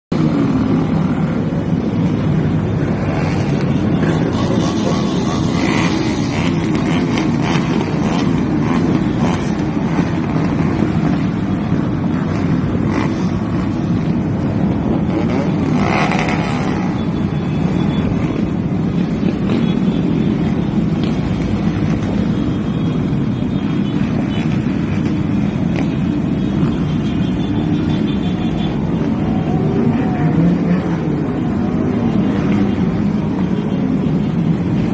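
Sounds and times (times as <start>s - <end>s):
vehicle engine and road noise: 0.1s - 34.9s.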